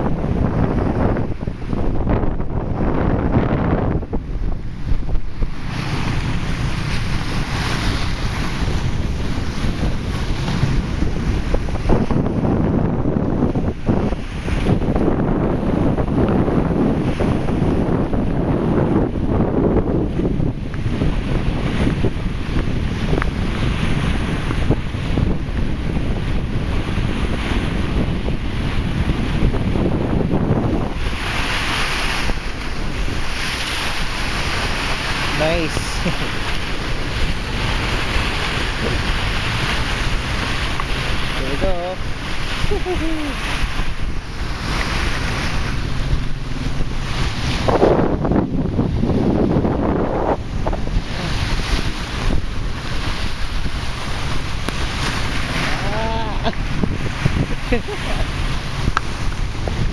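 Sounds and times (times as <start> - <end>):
choppy waves washing in: 0.0 - 59.9
rough surf: 0.0 - 59.9
strong wind buffeting microphone: 0.0 - 59.9.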